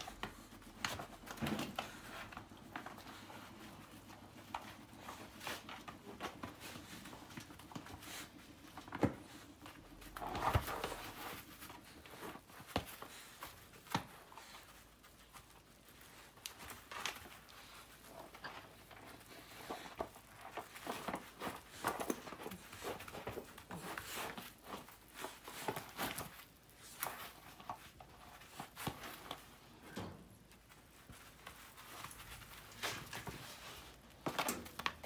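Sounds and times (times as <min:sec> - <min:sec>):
dog playing with a ball: 0:00.0 - 0:35.0.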